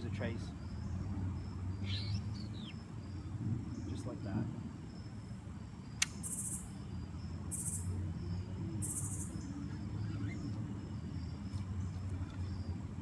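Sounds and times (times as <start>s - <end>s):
high buzzy insect chirps: 0.0s - 13.0s.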